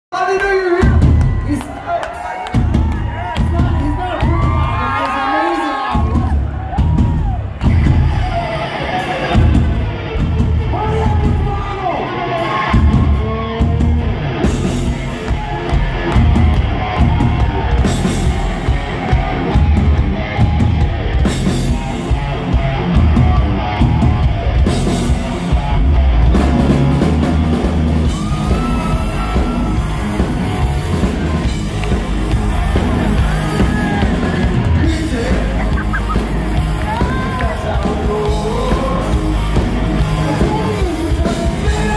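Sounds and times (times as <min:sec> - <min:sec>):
loud rock music with drum kit: 0:00.2 - 0:41.9.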